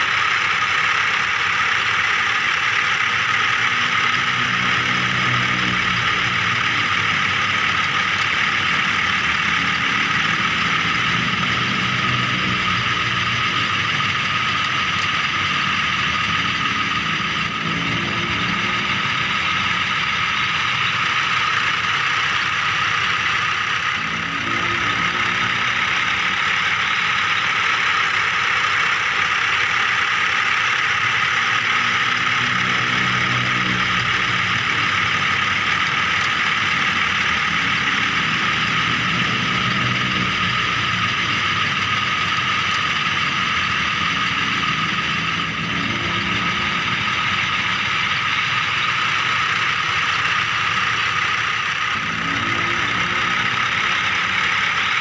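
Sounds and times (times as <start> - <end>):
toy vehicle motor whine: 0.0 - 55.0
low hum: 1.0 - 29.4, 30.2 - 55.0.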